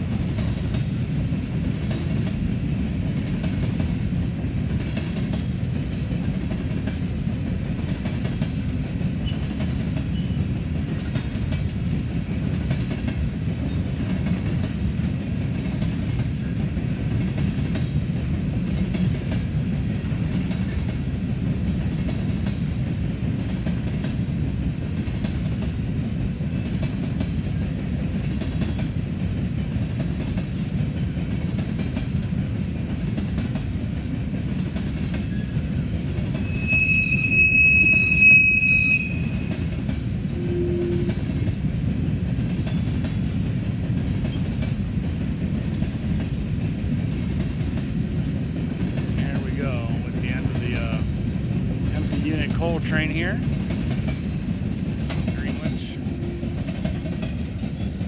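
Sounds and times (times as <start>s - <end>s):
train wheels rumbling on rail: 0.0s - 58.0s
wheels clacking over rail joints: 0.1s - 36.5s, 41.0s - 58.0s.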